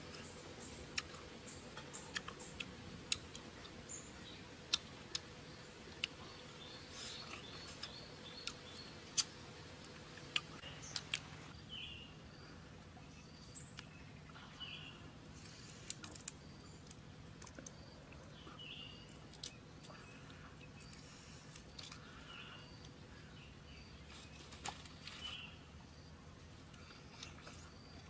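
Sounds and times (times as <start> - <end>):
bird chirping: 0.0 - 9.4, 10.3 - 26.2
eating and peeling prawns: 0.0 - 11.6, 12.3 - 25.7, 26.3 - 28.0.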